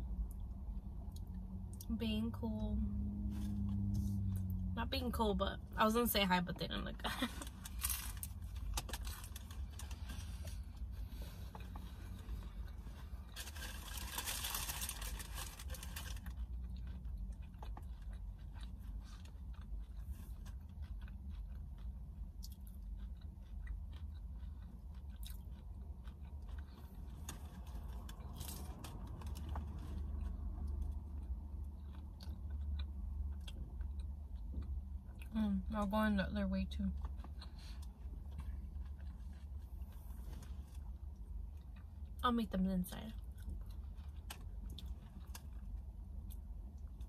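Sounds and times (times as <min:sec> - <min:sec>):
steady low hum: 0:00.0 - 0:47.0
chewing and crunching food: 0:05.9 - 0:47.0.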